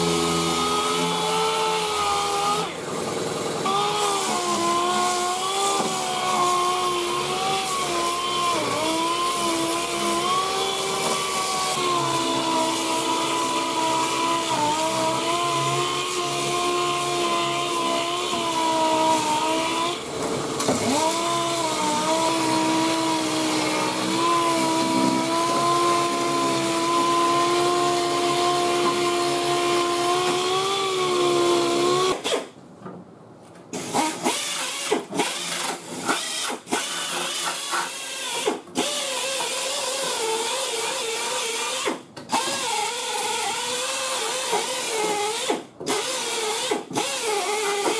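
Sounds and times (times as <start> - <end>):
air tool grinding in bursts: 0.0 - 32.5, 33.7 - 47.9
pneumatic sander whining: 0.0 - 32.6, 33.7 - 47.9.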